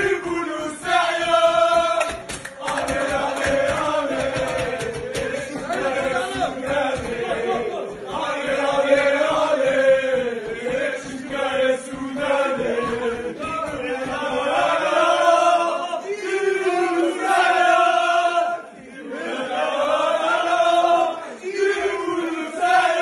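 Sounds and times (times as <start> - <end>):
men chanting in unison: 0.0 - 23.0.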